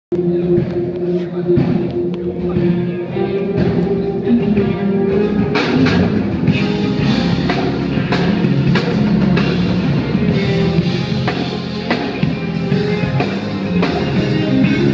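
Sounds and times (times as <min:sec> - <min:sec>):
drum kit: 0:00.1 - 0:14.9
rock guitar: 0:00.1 - 0:14.9.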